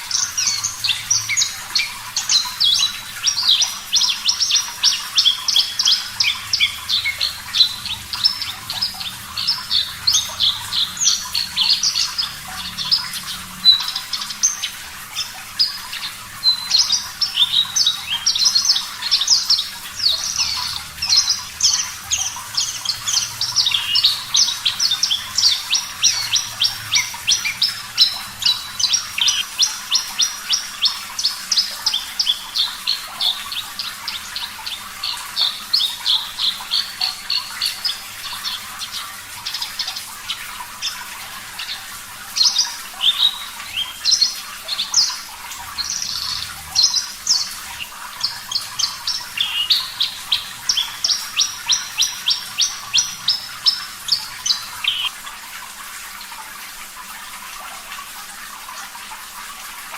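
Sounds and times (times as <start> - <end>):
bird singing sharp repeated notes: 0.0 - 41.0, 42.4 - 55.1.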